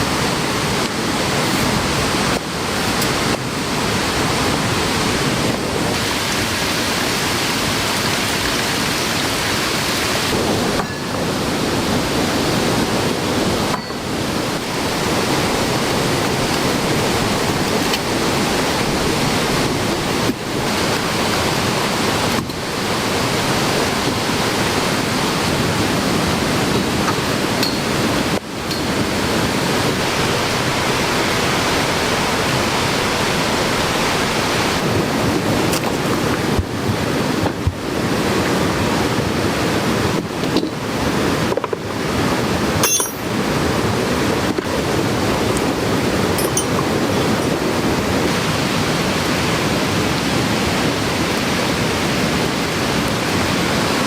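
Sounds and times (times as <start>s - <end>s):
fast-running stream: 0.0s - 54.0s
heavy rain: 0.0s - 54.0s.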